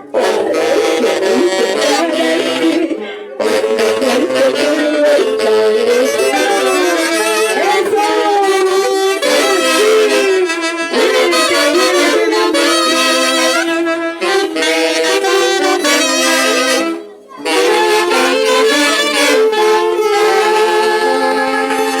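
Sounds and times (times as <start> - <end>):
saxophones and brass playing: 0.0 - 22.0.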